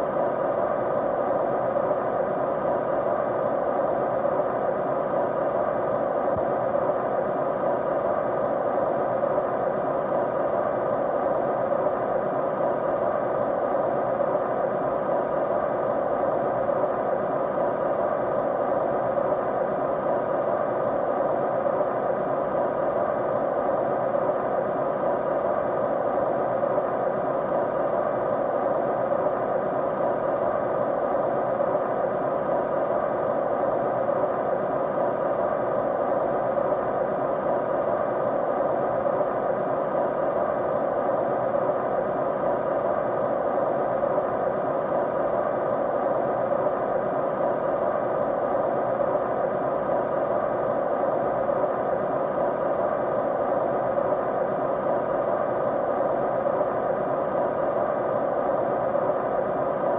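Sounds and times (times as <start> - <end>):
white noise: 0.0 - 59.9.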